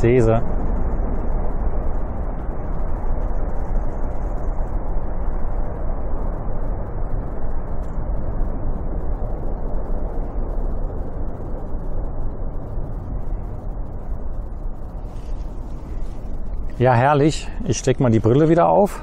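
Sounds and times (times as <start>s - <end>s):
jet engines deep rumble: 0.0s - 19.0s.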